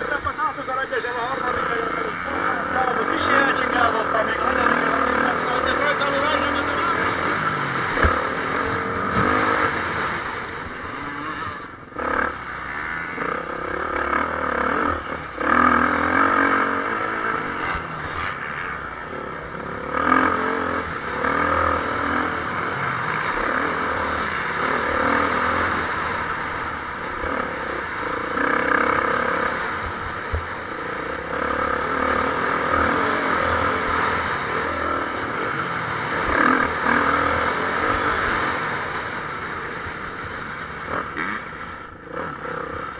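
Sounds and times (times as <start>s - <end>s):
motocross engines revving: 0.0s - 42.9s.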